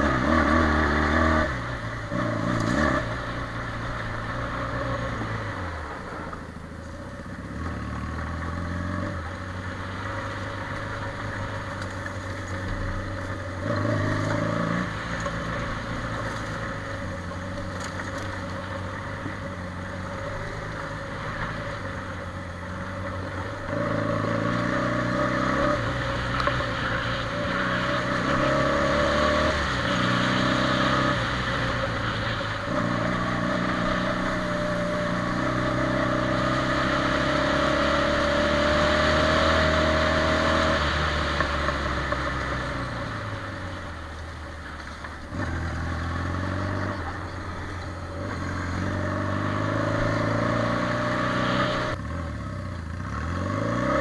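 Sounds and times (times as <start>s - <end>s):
quad bike engine revving: 0.0s - 6.2s, 7.3s - 43.9s, 45.3s - 54.0s.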